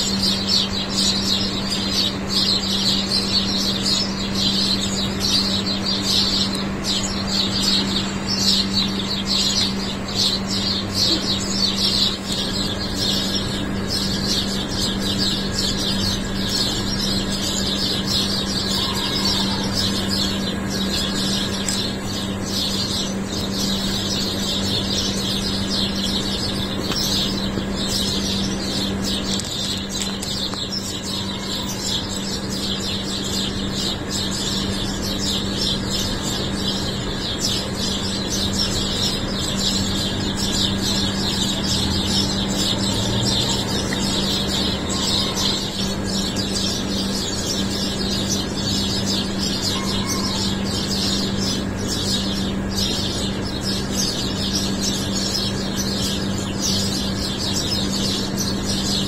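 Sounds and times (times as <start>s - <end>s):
low mechanical hum: 0.0s - 59.0s
small birds chirping: 0.0s - 59.0s.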